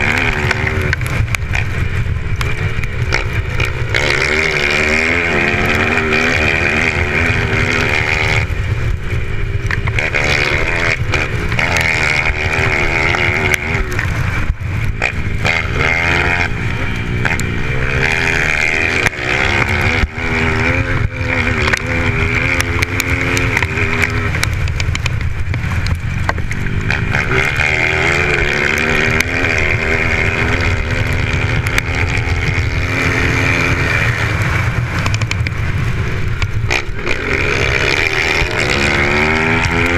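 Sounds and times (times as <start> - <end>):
motocross motorcycle engine revving: 0.0 - 39.9.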